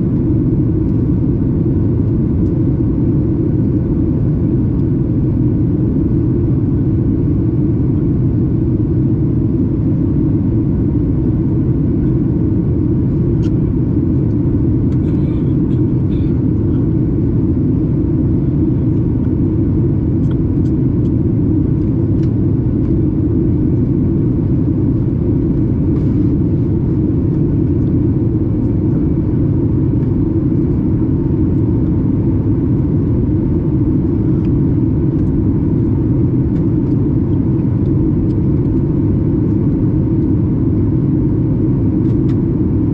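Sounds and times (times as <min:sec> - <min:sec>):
jet engine roar in cabin: 0:00.0 - 0:42.9.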